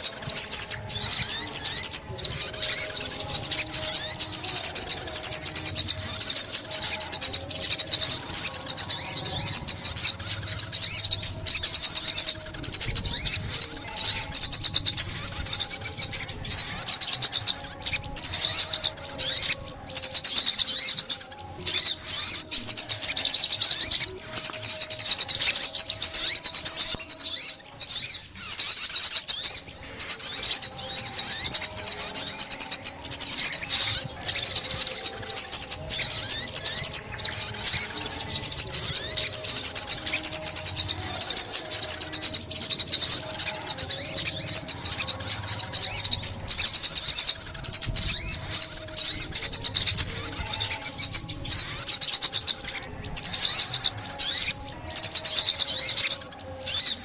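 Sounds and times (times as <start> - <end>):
bird twittering chirps: 0.0 - 57.0.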